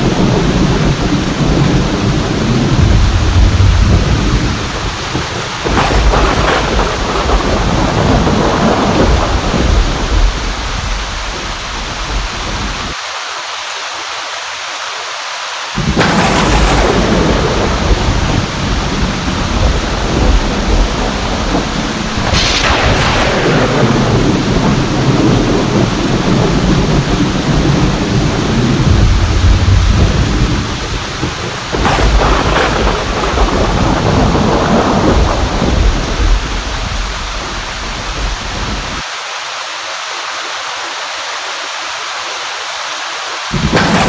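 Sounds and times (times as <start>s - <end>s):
deep thunder rumbling: 0.0s - 13.0s, 15.8s - 39.0s, 43.5s - 44.0s
thunderclap: 0.0s - 13.0s, 15.8s - 39.0s, 43.5s - 44.0s
heavy rain: 0.0s - 44.0s.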